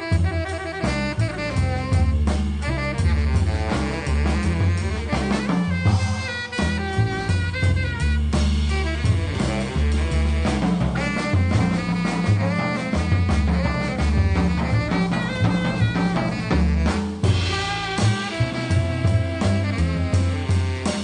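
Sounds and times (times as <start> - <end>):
swing jazz band playing: 0.0 - 21.0.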